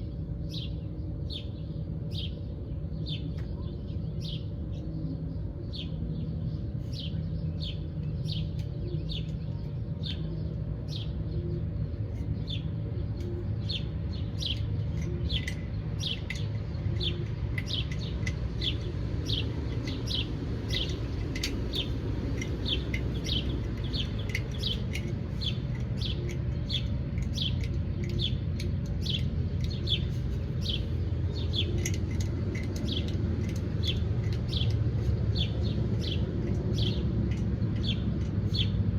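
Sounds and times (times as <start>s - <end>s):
songbirds chirping: 0.0s - 38.9s
steady low rumble: 0.0s - 38.9s.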